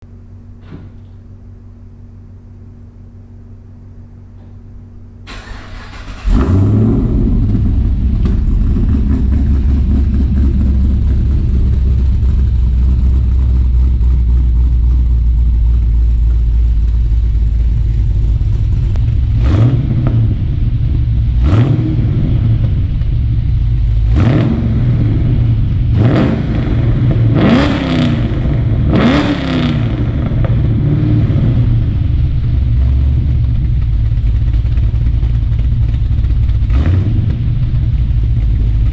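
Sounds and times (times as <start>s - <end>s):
car engine idling and revving: 5.3s - 38.9s.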